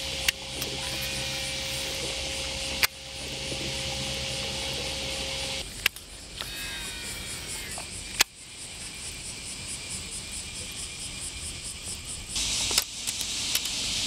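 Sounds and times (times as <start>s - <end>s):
insects chirping trill: 0.0s - 14.0s.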